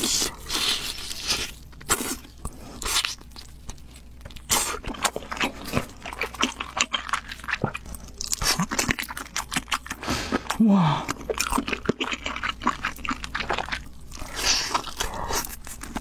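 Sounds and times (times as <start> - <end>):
close chewing and biting: 0.0 - 16.0.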